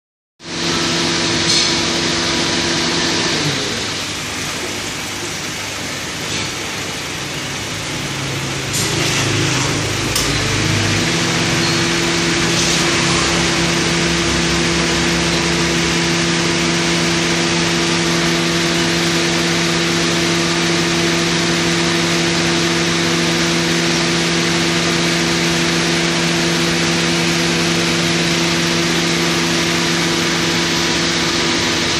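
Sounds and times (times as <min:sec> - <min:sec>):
machine hum: 0:00.5 - 0:31.9.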